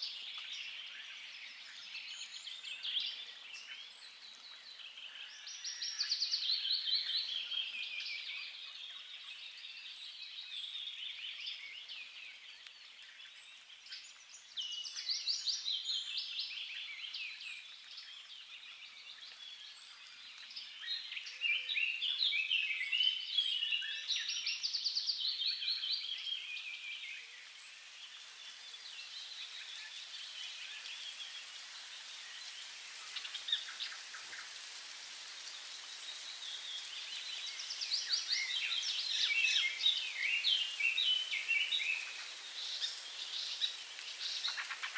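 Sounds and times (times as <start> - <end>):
faint outdoor hiss: 0.0 - 44.9.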